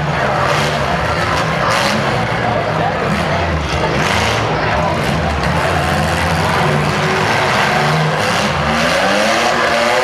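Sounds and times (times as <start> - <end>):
car engines running: 0.0 - 10.0
engine revving: 0.0 - 10.0.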